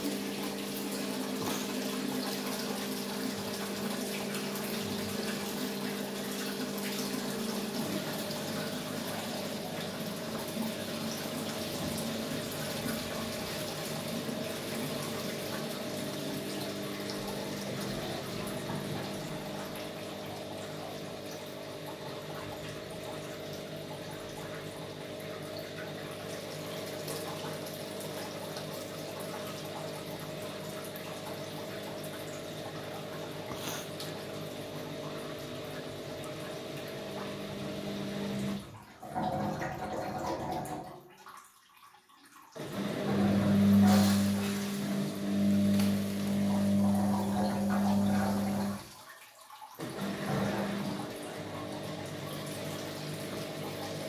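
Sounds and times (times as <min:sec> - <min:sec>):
washing machine motor hum: 0:00.0 - 0:41.2, 0:42.6 - 0:49.0, 0:49.8 - 0:54.0
water rushing into washing machine: 0:00.0 - 0:54.0.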